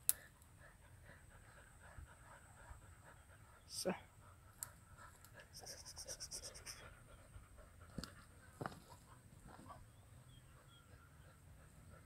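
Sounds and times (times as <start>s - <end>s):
faint dog panting: 0.2s - 12.0s.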